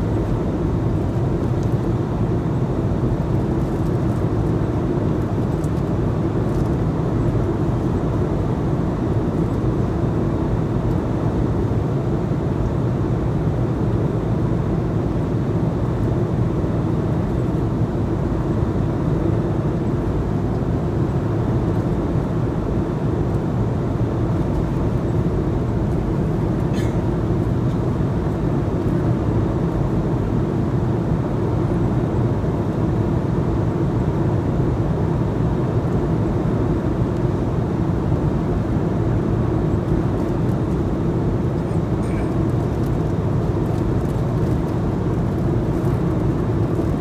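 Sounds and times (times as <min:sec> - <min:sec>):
jet engines low rumble: 0:00.0 - 0:47.0.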